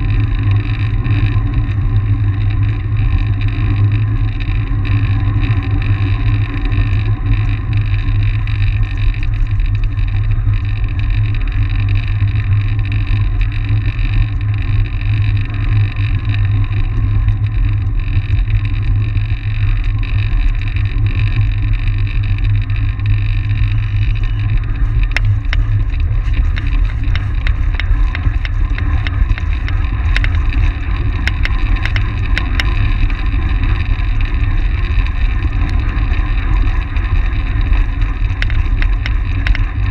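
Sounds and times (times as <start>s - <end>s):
bike tyres rolling: 0.0s - 39.9s
wind buffeting microphone: 0.0s - 39.9s.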